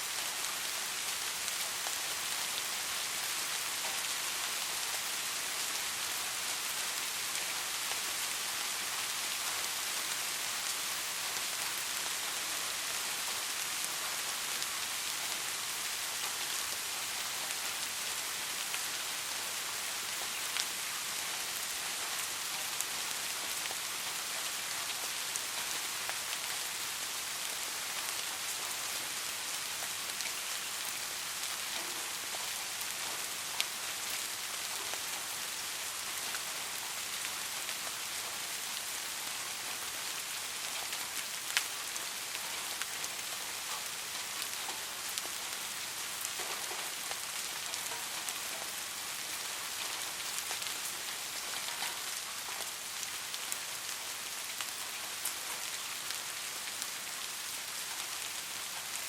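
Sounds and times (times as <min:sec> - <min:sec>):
soft rain falling: 0:00.0 - 0:59.0.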